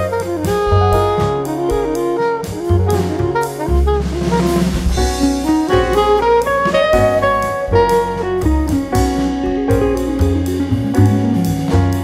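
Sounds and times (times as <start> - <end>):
jazz background music: 0.0 - 12.0.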